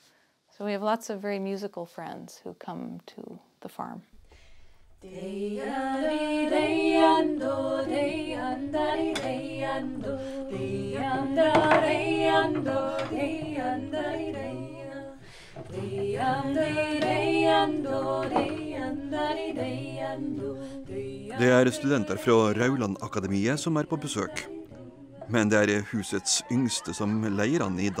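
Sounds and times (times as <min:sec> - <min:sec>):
voices singing unaccompanied: 0:05.0 - 0:28.0.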